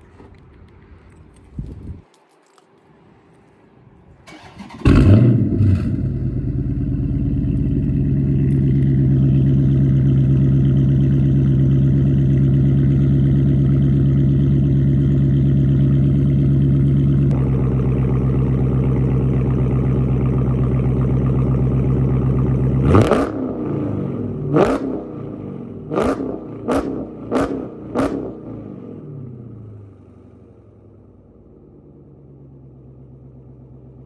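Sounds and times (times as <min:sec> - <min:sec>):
car engine starting and idling: 0:04.1 - 0:34.0.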